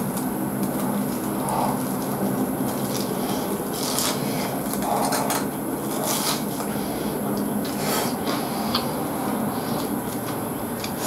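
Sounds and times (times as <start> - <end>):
crunching and chewing fried food: 0.0 - 11.0.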